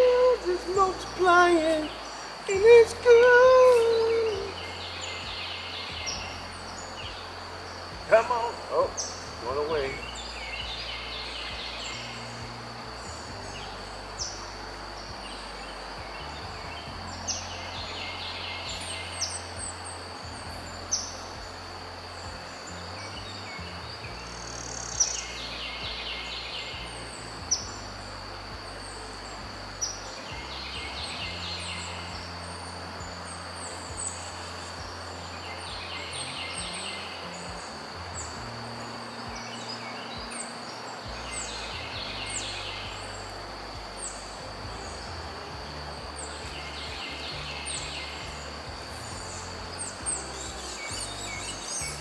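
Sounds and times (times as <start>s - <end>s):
birds singing: 0.0s - 52.0s
high insect drone: 0.0s - 52.0s
river flowing: 0.0s - 52.0s.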